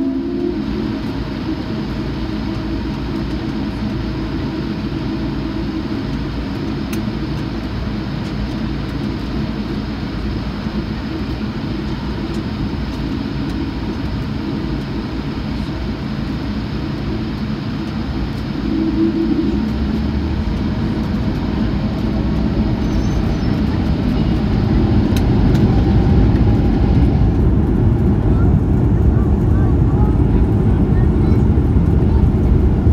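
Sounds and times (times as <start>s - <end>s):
jet engine cabin hum: 0.0s - 32.9s.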